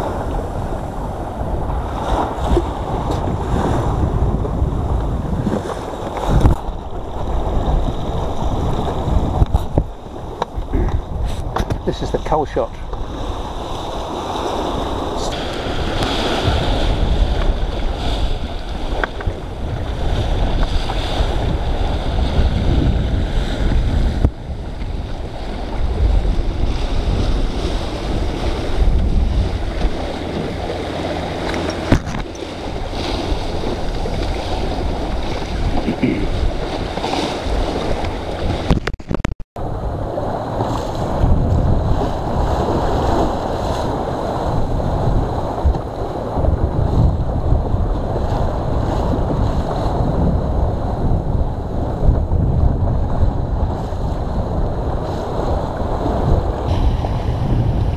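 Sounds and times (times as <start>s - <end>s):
choppy water slapping hull: 0.0s - 57.9s
wind buffeting microphone: 0.0s - 57.9s.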